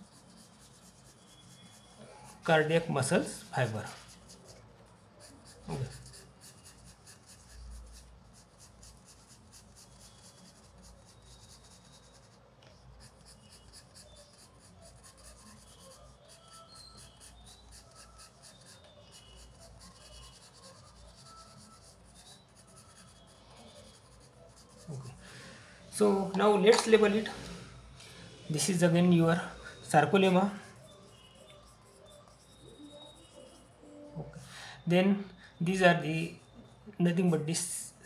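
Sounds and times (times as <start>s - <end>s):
pencil scratching on paper: 0.0s - 25.3s, 28.5s - 34.0s.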